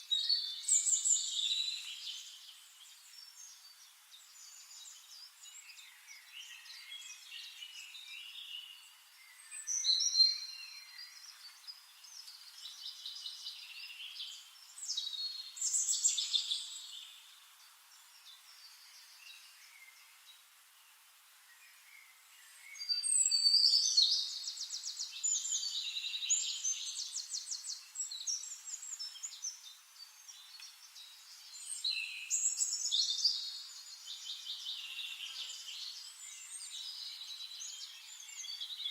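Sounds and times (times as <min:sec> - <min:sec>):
birds chirping and trilling: 0:00.0 - 0:20.4, 0:21.5 - 0:38.9.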